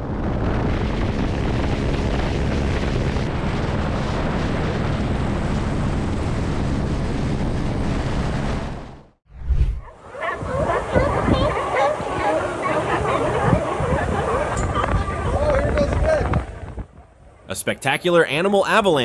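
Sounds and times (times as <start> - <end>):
avalanche rumble: 0.0 - 17.0.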